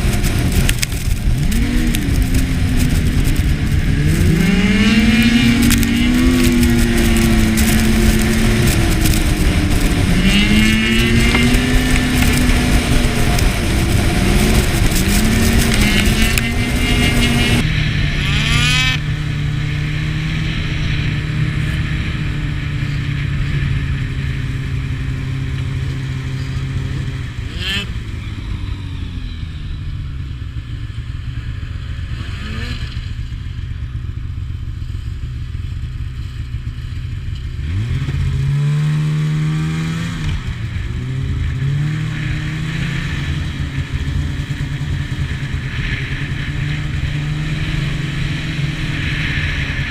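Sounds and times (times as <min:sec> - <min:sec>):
snowmobile engines running: 0:00.0 - 0:49.9.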